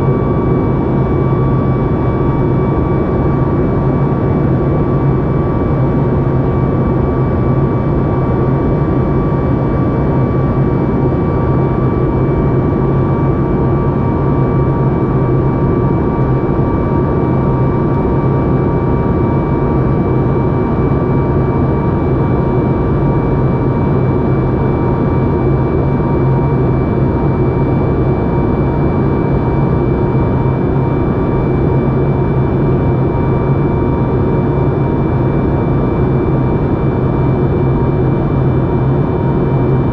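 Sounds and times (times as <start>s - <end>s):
jet engines and airflow rush: 0.0s - 39.9s.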